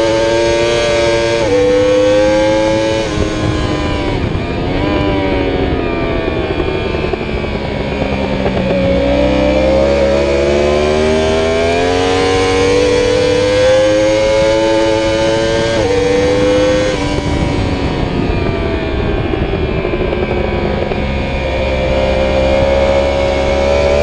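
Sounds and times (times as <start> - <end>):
motorcycle engine under load: 0.0 - 24.0
wind noise: 0.0 - 24.0.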